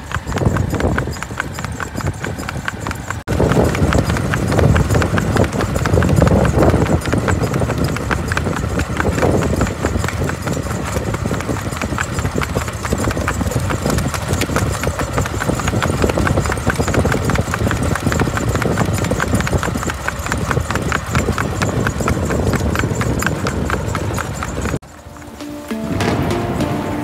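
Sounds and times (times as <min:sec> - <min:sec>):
horse hooves clip-clopping: 0:00.0 - 0:27.0.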